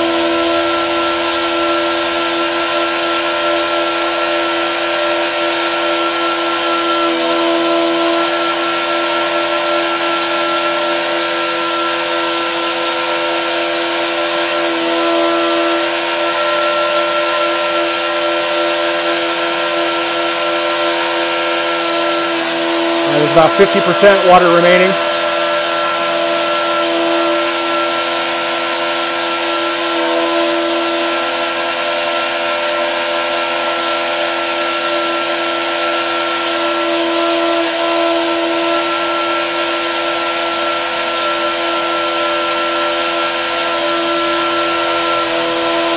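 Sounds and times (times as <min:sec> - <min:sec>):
electric water pump humming: 0:00.0 - 0:45.9
water spraying from nozzle: 0:00.0 - 0:45.9.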